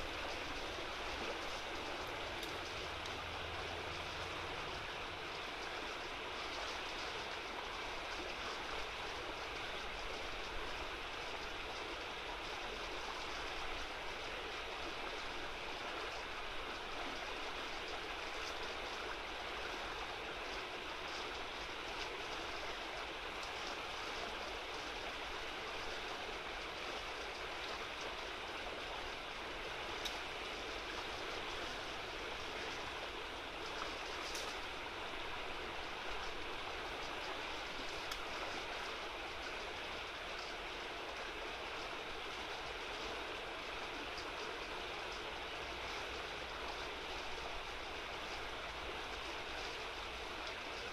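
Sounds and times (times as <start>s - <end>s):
river rushing over stones: 0.0s - 50.9s.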